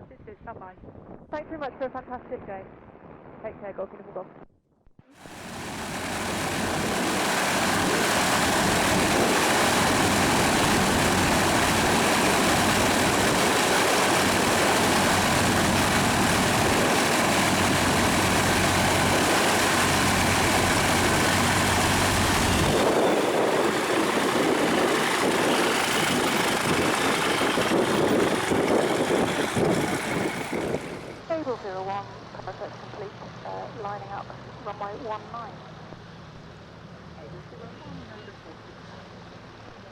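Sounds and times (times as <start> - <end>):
propeller aircraft engine running: 5.2 - 39.9.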